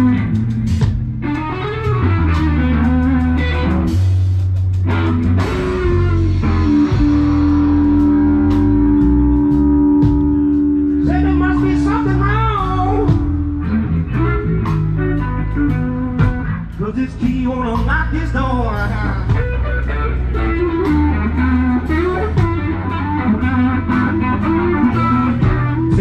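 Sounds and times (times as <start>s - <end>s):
blues guitar with bass and beat: 0.0s - 26.0s.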